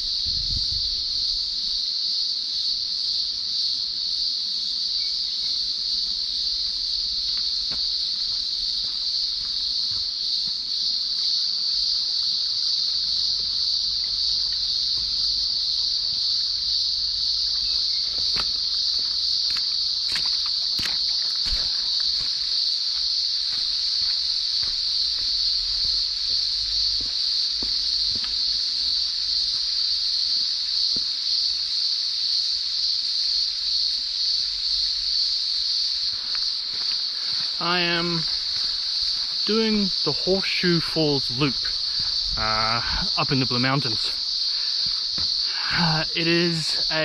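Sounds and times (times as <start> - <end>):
cicadas shrilling: 0.0 - 47.0.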